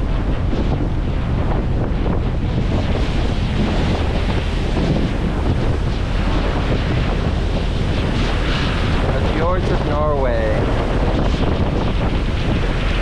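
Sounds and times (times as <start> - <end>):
low engine rumble: 0.0 - 13.0
wind buffeting microphone: 0.0 - 13.0.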